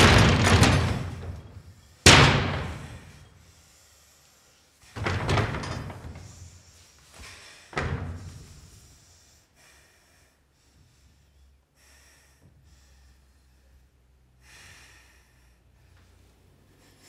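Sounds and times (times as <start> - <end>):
woman breathing faintly: 1.2 - 17.0.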